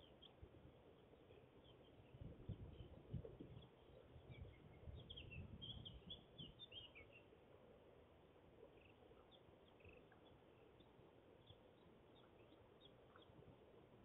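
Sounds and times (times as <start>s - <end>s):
small birds chirping: 0.0s - 7.8s, 8.4s - 14.0s.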